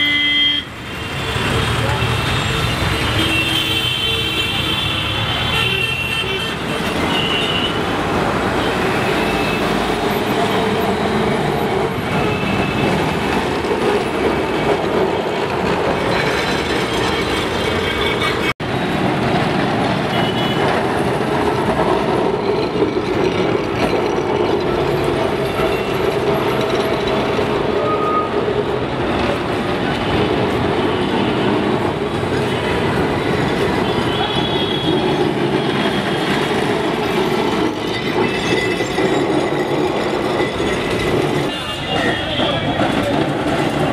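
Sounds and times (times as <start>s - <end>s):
city street traffic: 0.0s - 43.9s
tram wheels rumbling on rails: 0.6s - 43.9s.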